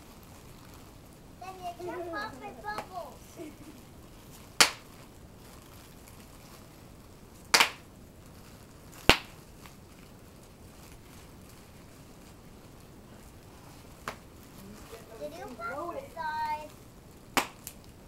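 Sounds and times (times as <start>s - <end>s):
bubble wrap popping: 0.0s - 18.0s.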